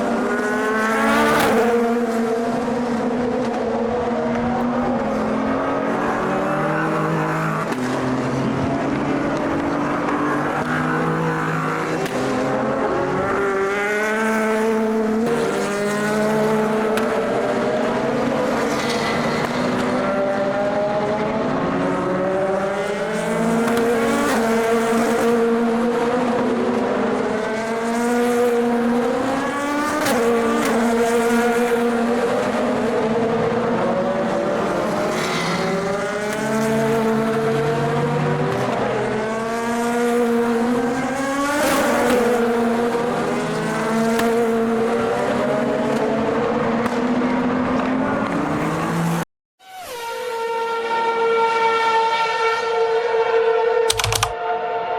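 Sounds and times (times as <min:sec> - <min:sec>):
race car engines upshifting: 0:00.1 - 0:49.0.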